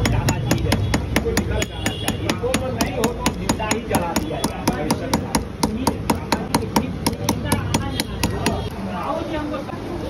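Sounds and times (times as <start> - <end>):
metal pestle pounding on stone: 0.0 - 8.7.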